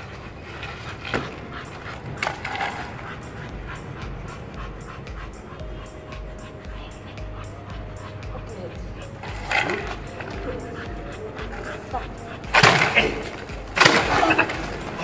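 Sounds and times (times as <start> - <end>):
dog panting rapidly: 0.0 - 15.0.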